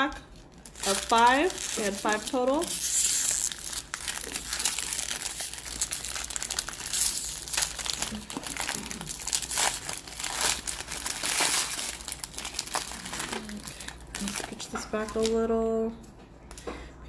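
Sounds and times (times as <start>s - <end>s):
foil wrapper crinkling: 0.0s - 15.4s.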